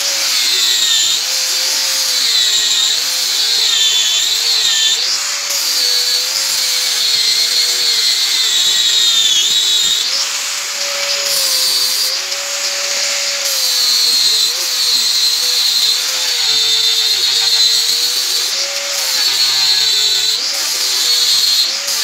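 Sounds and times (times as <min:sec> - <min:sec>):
angle grinder grinding metal: 0:00.0 - 0:22.0.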